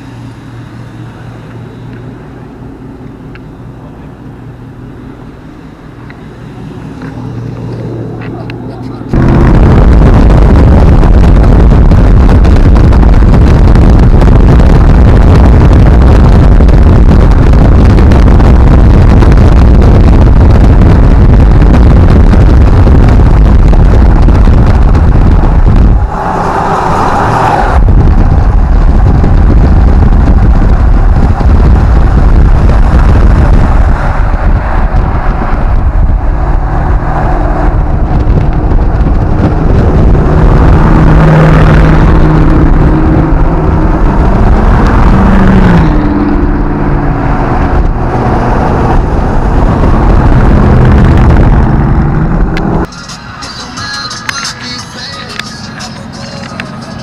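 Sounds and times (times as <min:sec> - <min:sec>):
loud motor vehicle running: 0:00.0 - 0:57.0.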